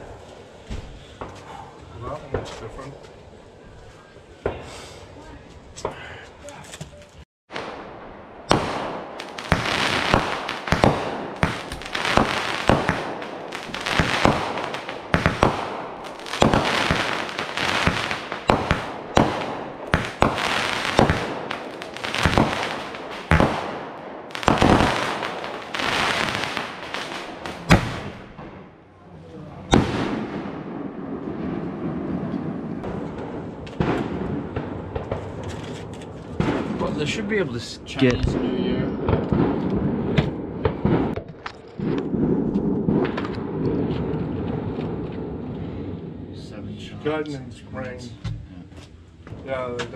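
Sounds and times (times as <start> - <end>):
low steady background noise: 0.0 - 41.7, 43.2 - 49.9
fireworks reports and crackling bursts: 0.0 - 49.9.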